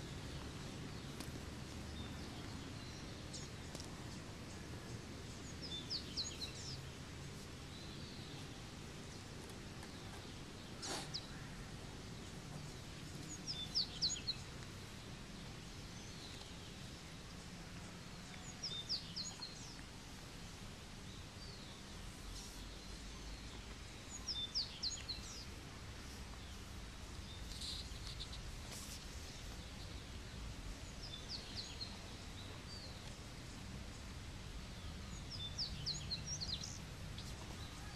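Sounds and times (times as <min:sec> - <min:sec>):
faint outdoor background noise: 0:00.0 - 0:37.9
songbird singing: 0:00.0 - 0:37.9.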